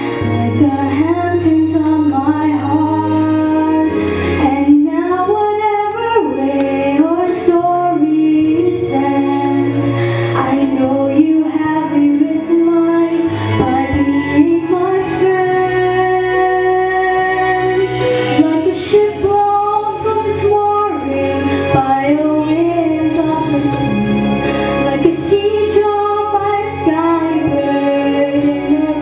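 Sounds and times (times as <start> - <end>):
woman singing ballad: 0.0 - 24.0, 24.6 - 29.0
low instrumental accompaniment: 0.0 - 29.0.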